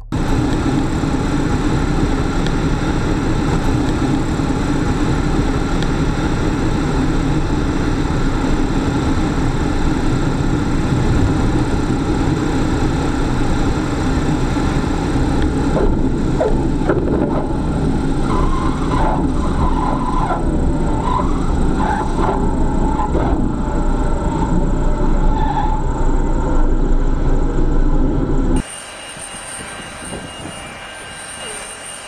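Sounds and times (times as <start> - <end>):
propeller plane engine running: 0.0 - 32.0.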